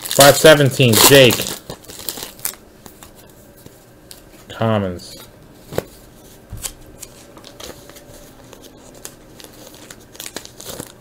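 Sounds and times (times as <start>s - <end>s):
plastic card sleeves rustling: 0.0s - 4.3s, 5.1s - 11.0s.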